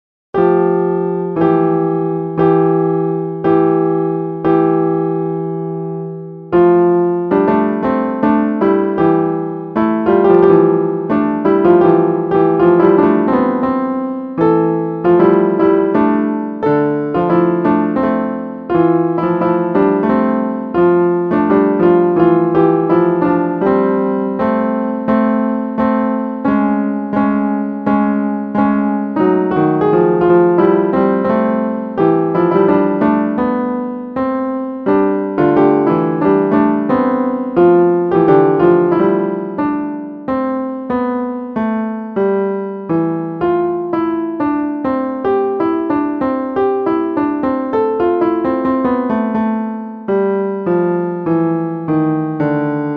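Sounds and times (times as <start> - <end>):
piano melody: 0.4 - 52.9.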